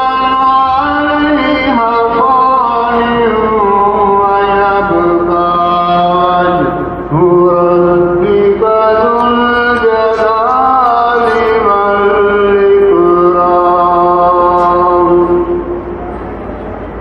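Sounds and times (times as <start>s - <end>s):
man chanting: 0.0s - 15.8s.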